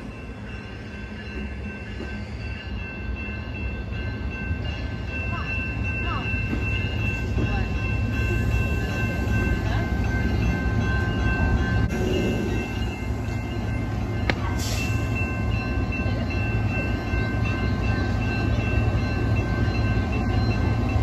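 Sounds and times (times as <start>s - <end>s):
crossing bell ringing: 0.0s - 21.0s
train wheels rumbling on rails: 0.0s - 21.0s.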